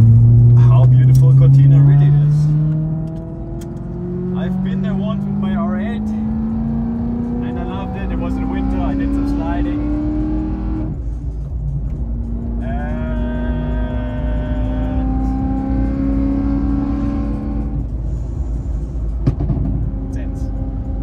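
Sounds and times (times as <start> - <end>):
car engine drone from inside cabin: 0.0 - 21.0.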